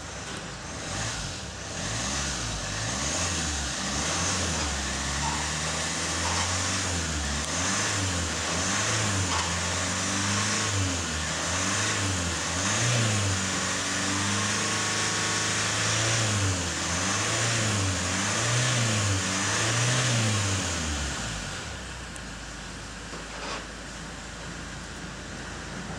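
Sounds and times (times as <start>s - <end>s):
diesel engine revving: 0.0s - 22.2s.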